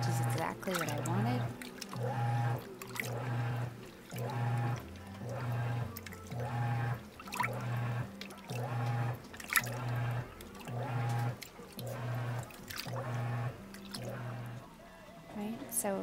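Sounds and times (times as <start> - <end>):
water sloshing in tub: 0.0 - 14.7
washing machine motor humming in pulses: 0.0 - 16.0.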